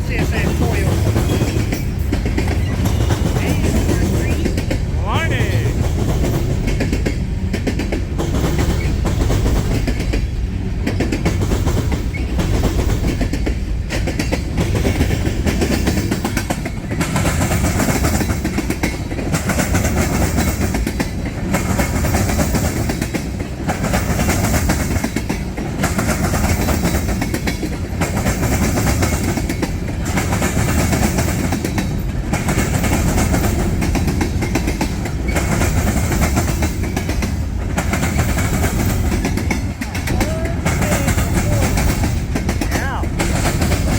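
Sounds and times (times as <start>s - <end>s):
train wheels rumbling on rail: 0.0s - 43.9s
wheels clickety-clack on rail joints: 0.0s - 43.9s.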